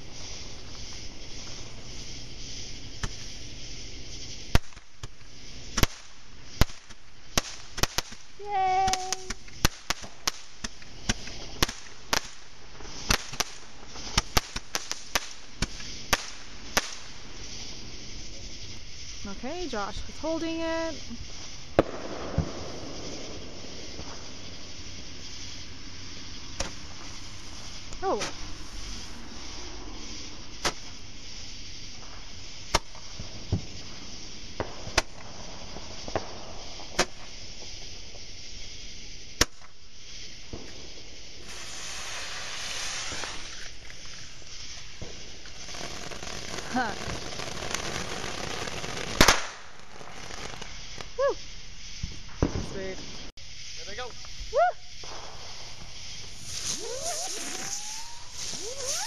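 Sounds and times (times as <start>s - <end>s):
firework burning hiss: 0.0s - 59.0s
firework cracks: 0.0s - 59.0s.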